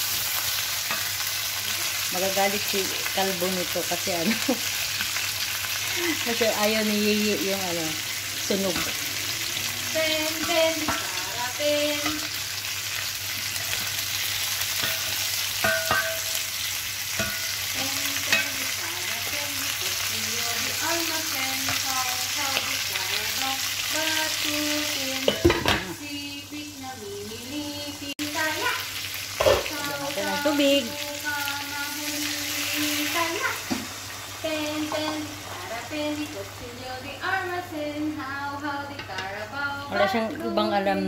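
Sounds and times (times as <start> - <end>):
fish sizzling in oil: 0.0 - 41.0.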